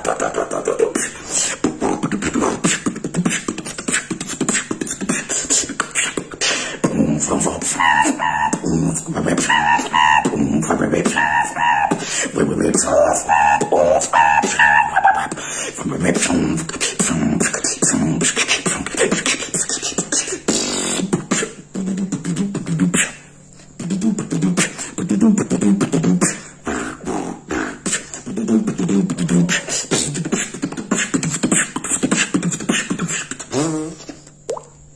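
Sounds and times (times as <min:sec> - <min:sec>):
person beatboxing: 0:00.0 - 0:34.6.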